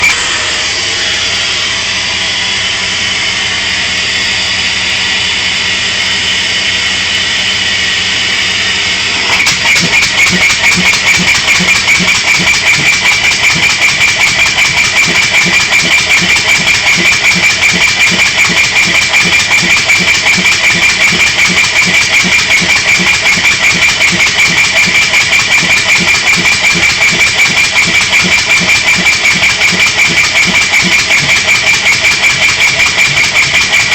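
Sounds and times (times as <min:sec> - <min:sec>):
air motor chuffing: 0:00.0 - 0:33.9.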